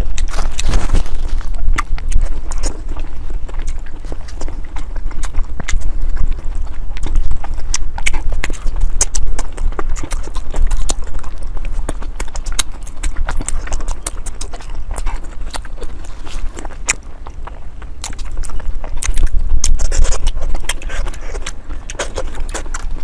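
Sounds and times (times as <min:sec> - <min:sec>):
low steady rumble: 0:00.0 - 0:23.0
wet mouth smacks and chewing: 0:00.0 - 0:23.0.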